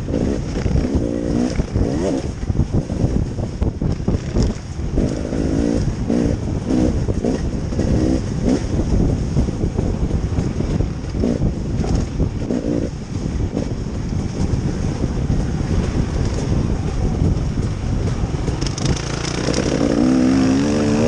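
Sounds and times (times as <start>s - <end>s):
vehicle engine revving: 0.0s - 3.1s, 4.0s - 21.0s.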